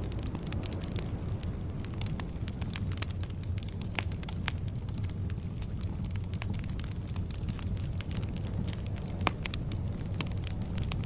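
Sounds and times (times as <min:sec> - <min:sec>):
low rumble of flames: 0:00.0 - 0:11.0
wood fire crackling and popping: 0:00.0 - 0:11.0.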